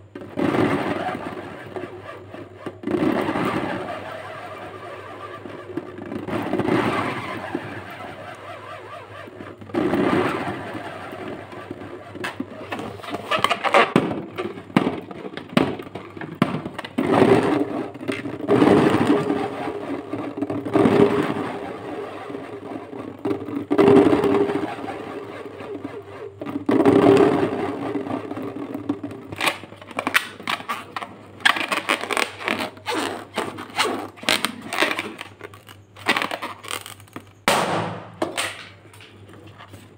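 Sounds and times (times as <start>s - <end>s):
rubber balloon squeaking: 0.0s - 39.9s.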